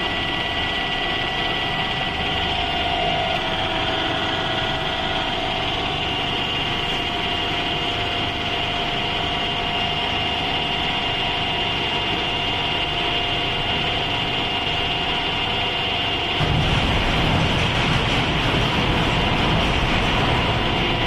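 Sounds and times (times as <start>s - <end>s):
gear whine: 0.0s - 21.0s
lathe running: 0.0s - 21.0s.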